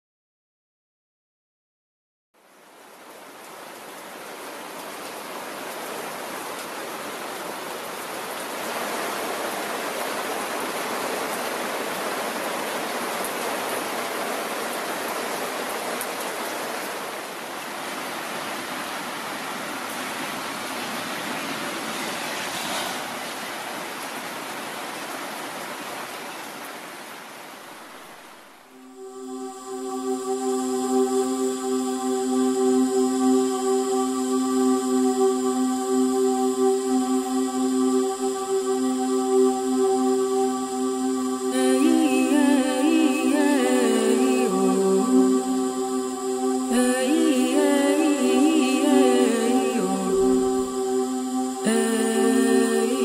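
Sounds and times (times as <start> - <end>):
steady rain falling: 2.4 - 53.0.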